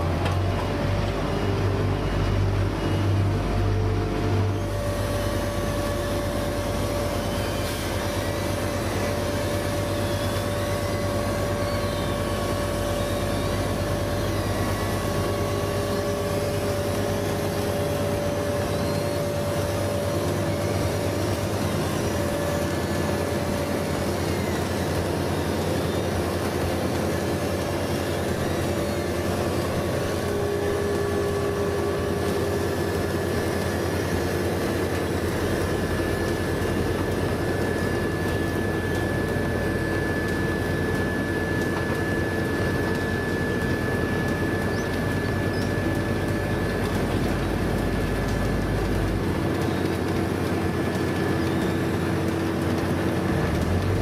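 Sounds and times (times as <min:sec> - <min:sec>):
engine drone: 0:00.0 - 0:54.0
whining tones: 0:00.0 - 0:54.0.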